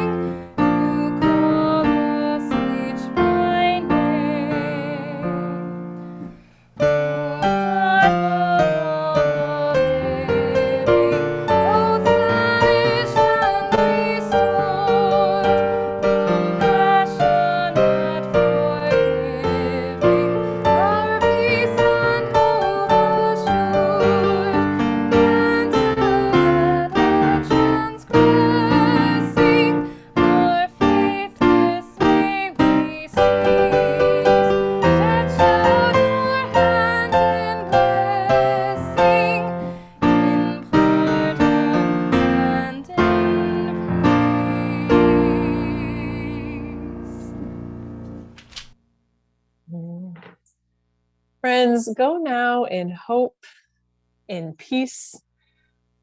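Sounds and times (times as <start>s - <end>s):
piano music: 0.0s - 48.4s.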